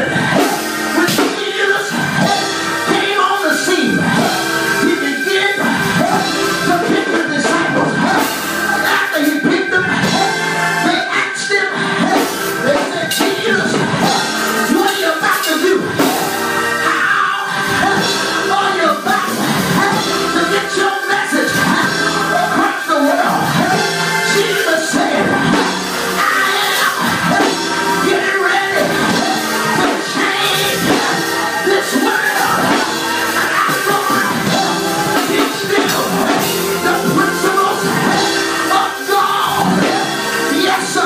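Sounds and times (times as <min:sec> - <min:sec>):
man singing into microphone: 0:00.0 - 0:41.0.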